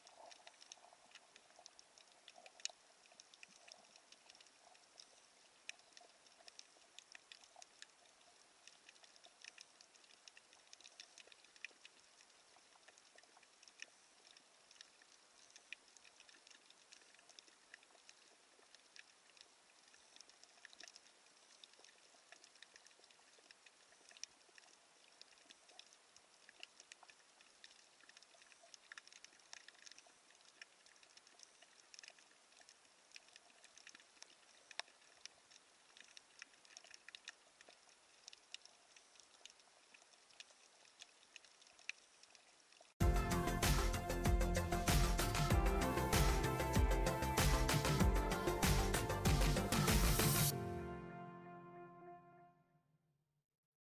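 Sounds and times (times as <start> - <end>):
faint underwater crackling: 0.0 - 50.5.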